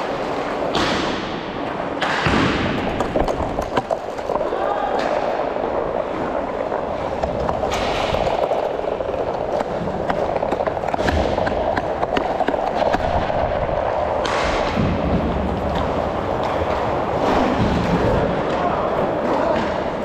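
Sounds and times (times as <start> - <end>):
skate wheels rolling on plastic floor: 2.6 - 20.0.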